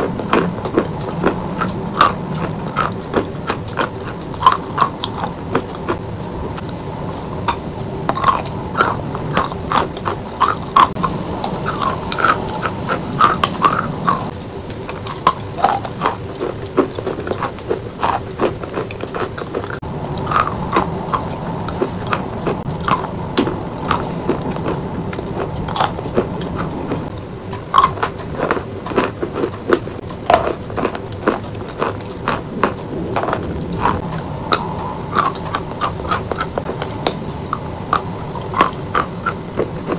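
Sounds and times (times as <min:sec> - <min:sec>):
person chewing chalk: 0:00.0 - 0:39.9.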